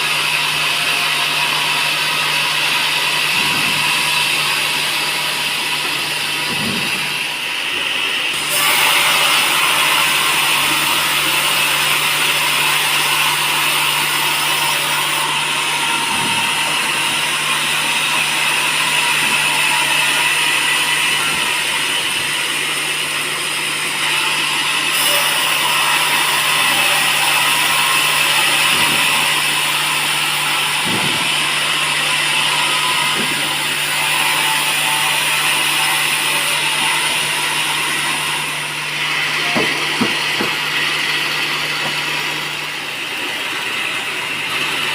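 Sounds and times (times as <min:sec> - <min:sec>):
sawmill saw hissing and humming: 0:00.0 - 0:44.9.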